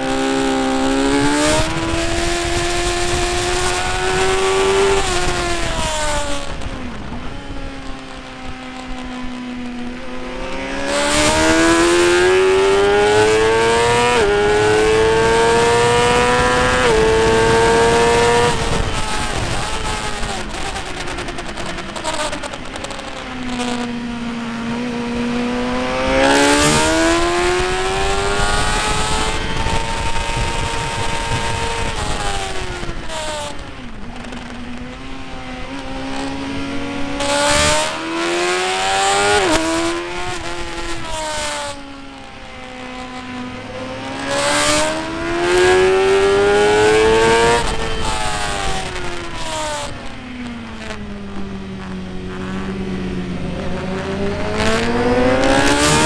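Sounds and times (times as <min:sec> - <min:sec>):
motorcycle engine racing: 0:00.0 - 0:56.0
wind rush: 0:00.0 - 0:56.0.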